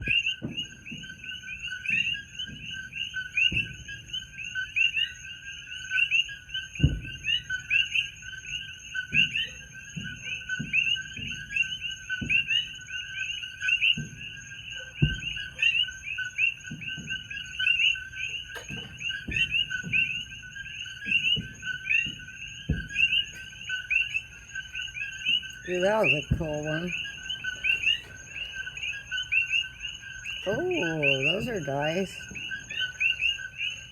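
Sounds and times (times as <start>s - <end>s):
distant fireworks booming: 0.0s - 33.9s
frogs calling: 0.0s - 33.9s.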